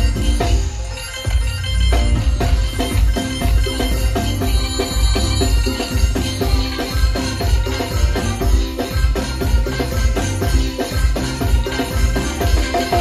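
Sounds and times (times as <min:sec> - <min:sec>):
live band music over loudspeakers: 0:00.0 - 0:13.0
heavy drum beat: 0:01.9 - 0:13.0.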